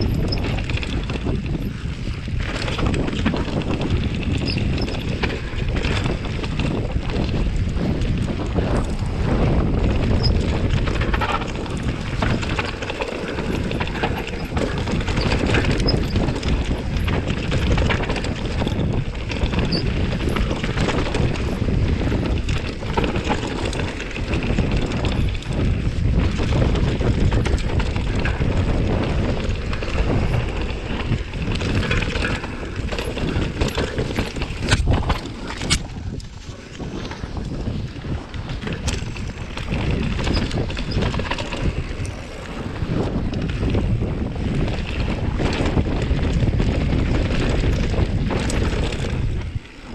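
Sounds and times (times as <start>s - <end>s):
bike clicks and rattles: 0.0s - 49.9s
tyres on dirt: 0.0s - 49.9s
wind buffeting microphone: 0.0s - 49.9s.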